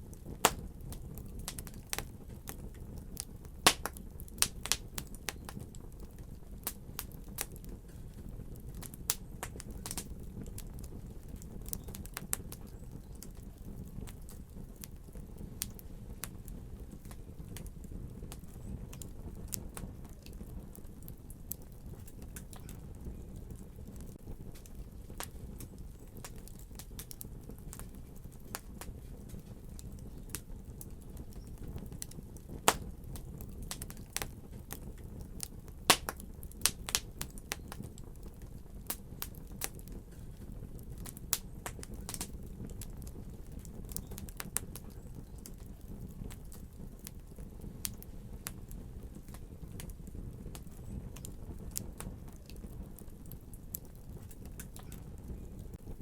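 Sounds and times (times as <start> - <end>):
fire pops and snaps: 0.0 - 56.0
low rumble of flames: 0.0 - 56.0.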